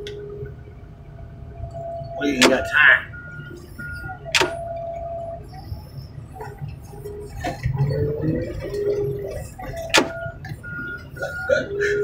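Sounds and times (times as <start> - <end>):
heavy machinery rumbling: 0.0 - 12.0
wavering squeaky tones: 1.5 - 12.0.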